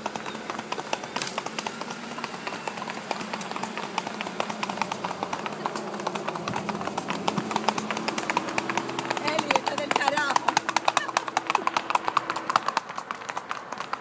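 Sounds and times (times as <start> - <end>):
hoofbeats on concrete: 0.0 - 14.0.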